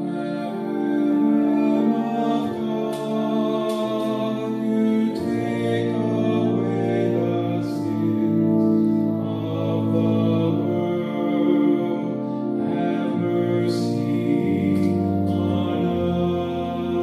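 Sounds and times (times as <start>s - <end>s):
slow sacred music chords: 0.0s - 17.0s.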